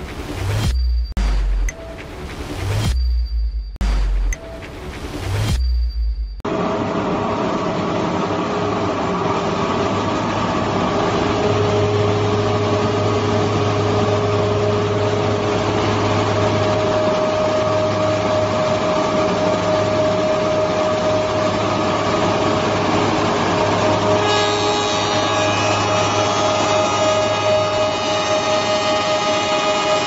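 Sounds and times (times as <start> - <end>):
moulder machine hum and whine: 0.0 - 30.0.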